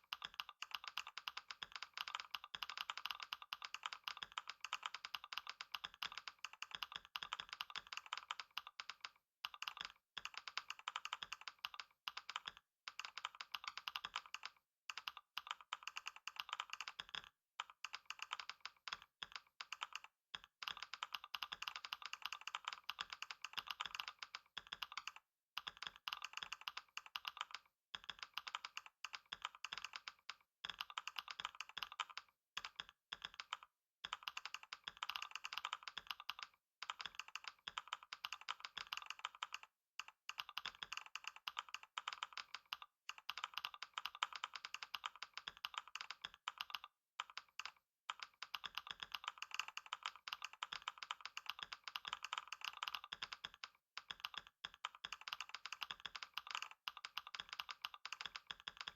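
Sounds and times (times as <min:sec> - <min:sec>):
typing on computer keyboard: 0:00.0 - 0:58.9.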